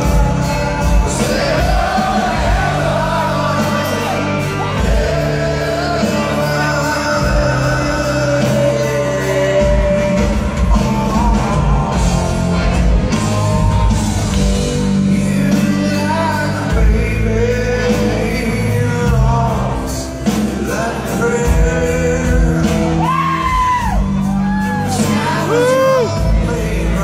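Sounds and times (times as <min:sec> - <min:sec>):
man singing: 0:00.0 - 0:13.8, 0:14.6 - 0:27.0
live rock band playing: 0:00.0 - 0:27.0.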